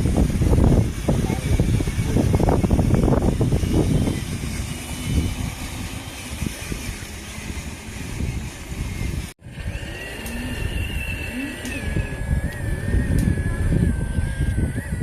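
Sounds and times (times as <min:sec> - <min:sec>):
low outdoor rumble: 0:00.0 - 0:15.0
small electric motors whining: 0:00.0 - 0:15.0.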